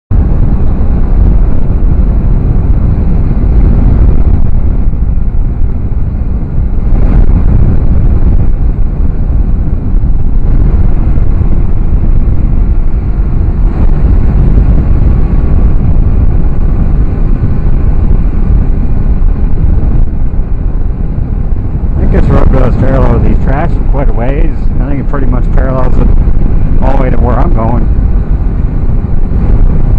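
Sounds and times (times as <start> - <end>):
motorcycle engine running: 0.1 - 29.9
wind noise on microphone: 0.1 - 29.9.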